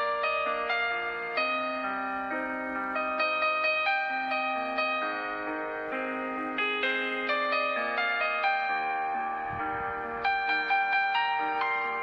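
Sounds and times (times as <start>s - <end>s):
slow gentle keyboard melody: 0.0s - 12.0s.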